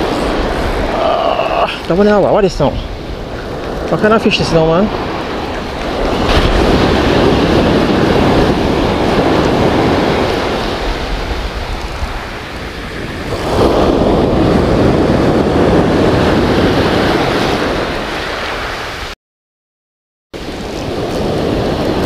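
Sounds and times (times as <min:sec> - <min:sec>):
sea surf breaking on beach: 0:00.0 - 0:19.2, 0:20.4 - 0:22.0.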